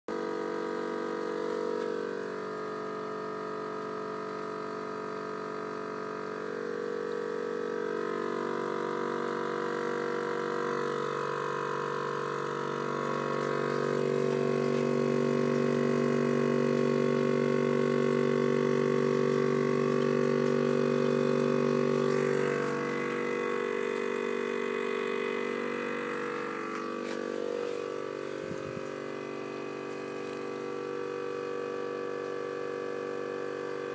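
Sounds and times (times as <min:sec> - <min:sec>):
vacuum pump humming: 0:00.1 - 0:33.9.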